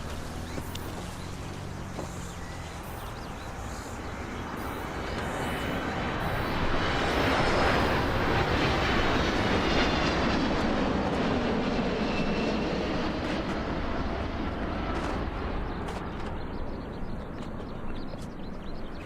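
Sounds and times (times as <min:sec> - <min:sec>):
aircraft roar passing overhead: 0:00.0 - 0:19.0.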